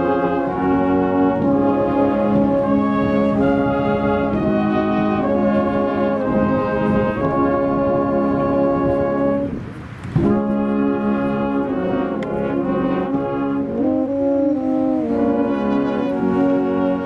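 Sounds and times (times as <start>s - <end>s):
brass band playing slow chords: 0.0s - 17.0s.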